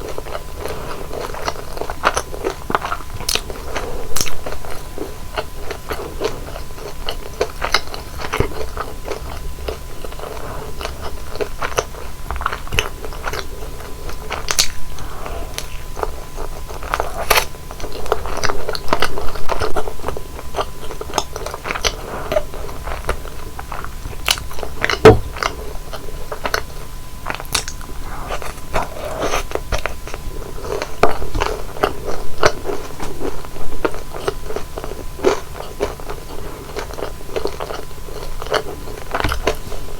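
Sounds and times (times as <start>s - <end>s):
crunching fried bread: 0.0s - 39.9s.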